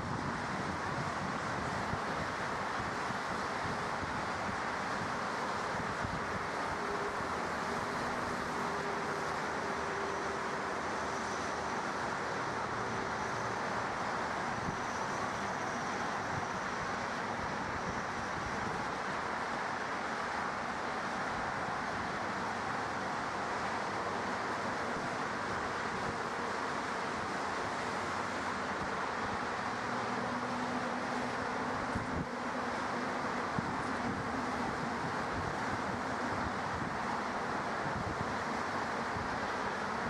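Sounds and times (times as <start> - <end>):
jet engine rushing and whining: 0.0 - 40.0.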